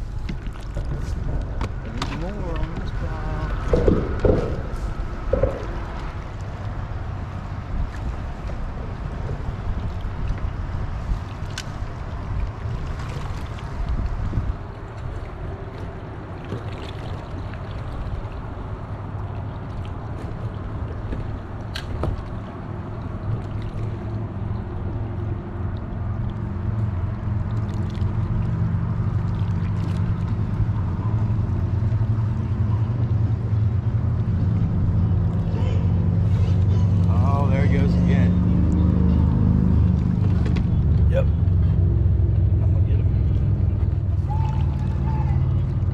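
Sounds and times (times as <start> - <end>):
faint water noise: 0.0 - 45.9
low engine drone: 0.0 - 45.9.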